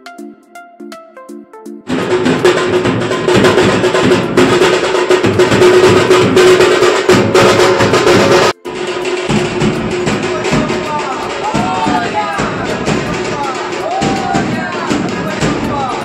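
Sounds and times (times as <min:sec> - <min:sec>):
bass and snare drumming: 0:01.9 - 0:16.0.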